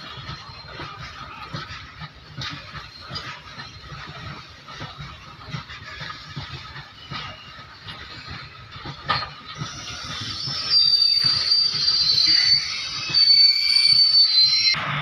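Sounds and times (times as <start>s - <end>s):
low rumble of train: 0.0s - 15.0s
train clank: 0.0s - 15.0s
train wheels squealing: 0.0s - 15.0s.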